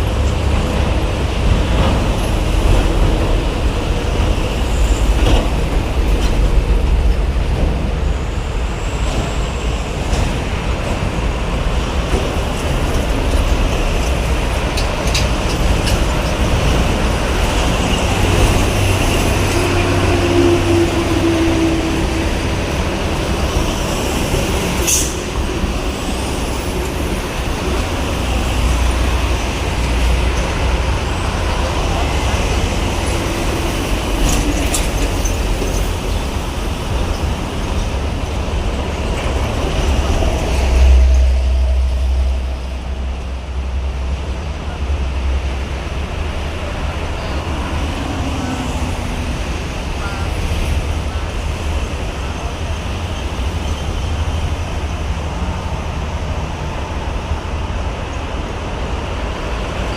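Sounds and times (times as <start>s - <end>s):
trucks and buses passing: 0.0s - 59.9s.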